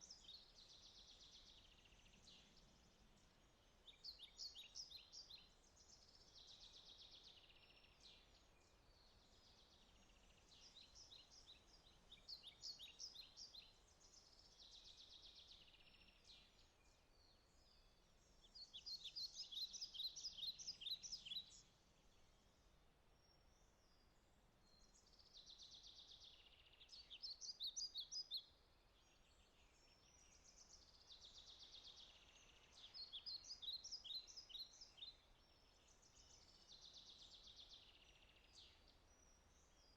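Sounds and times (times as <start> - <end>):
faint steady hiss: 0.0 - 39.9
songbird singing: 0.0 - 39.9.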